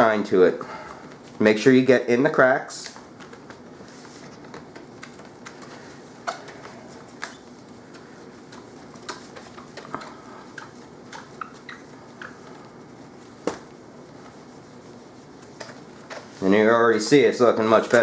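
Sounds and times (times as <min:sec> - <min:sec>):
paper towel wiping laptop: 0:03.1 - 0:18.0.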